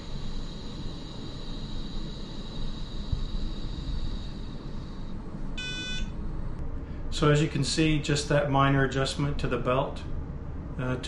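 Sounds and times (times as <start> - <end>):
motor whine over low drone: 0.0 - 11.0.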